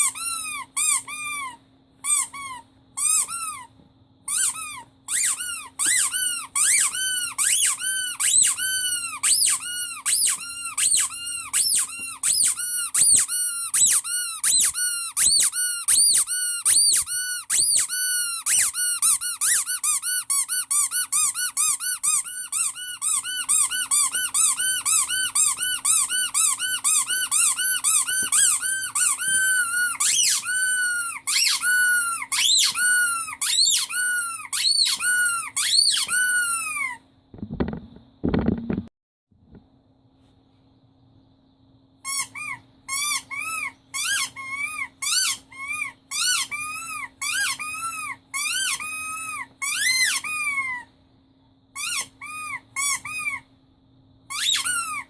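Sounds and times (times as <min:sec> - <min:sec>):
rubber squeaky toy squeaking: 0:00.0 - 0:37.0, 0:42.0 - 0:50.9, 0:51.8 - 0:53.5, 0:54.3 - 0:55.0.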